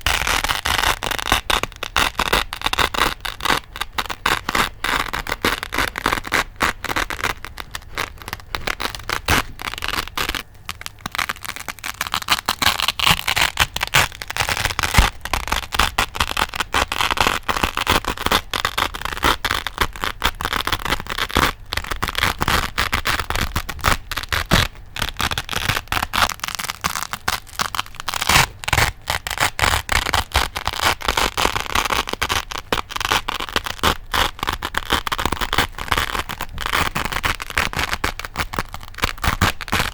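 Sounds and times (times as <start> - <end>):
velcro crackling: 0.0 - 39.9.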